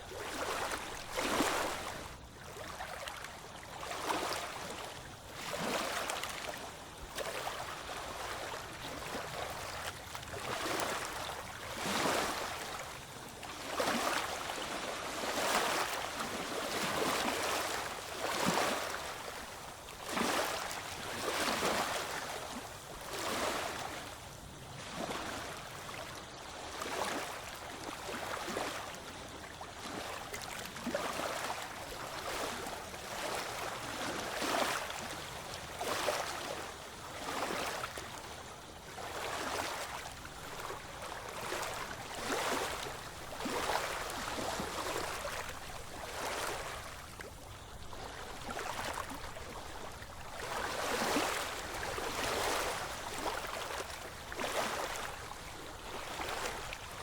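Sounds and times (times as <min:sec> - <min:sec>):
small ocean waves washing ashore: 0:00.0 - 0:57.0.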